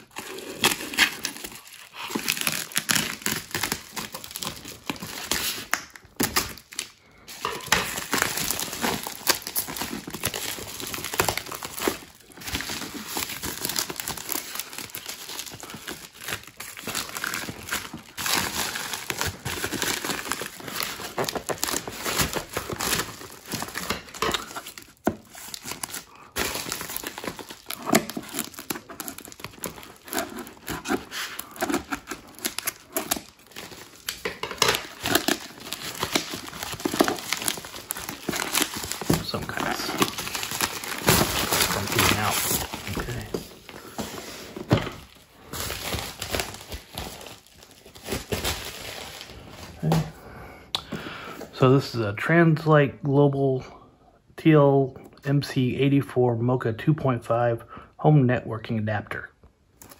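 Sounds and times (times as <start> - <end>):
plastic envelope crinkling: 0.0 - 50.1.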